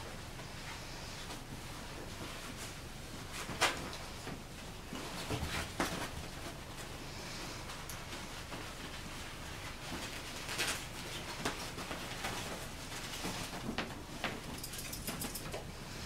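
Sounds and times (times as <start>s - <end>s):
puppies scrabbling on fabric: 0.1s - 15.7s.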